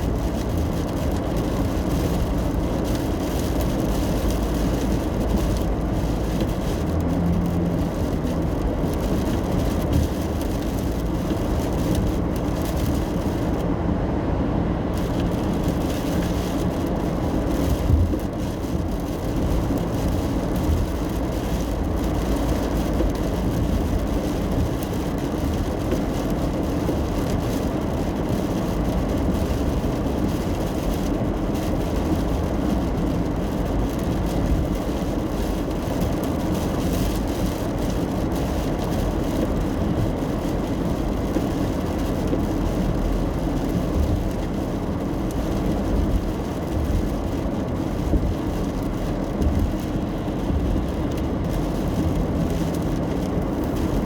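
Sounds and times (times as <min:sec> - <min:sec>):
tyre noise on wet road: 0:00.0 - 0:54.0.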